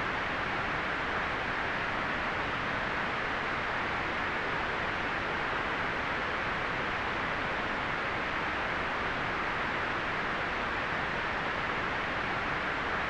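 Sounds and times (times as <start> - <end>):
steady white noise hiss: 0.0 - 13.0.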